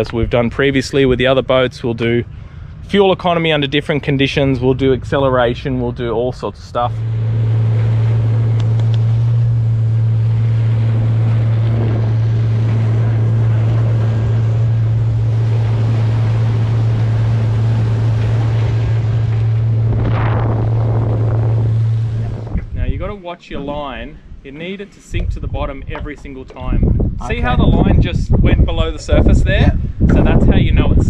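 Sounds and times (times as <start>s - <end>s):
water rushing: 0.0s - 28.2s
outboard motor drone: 0.0s - 31.0s.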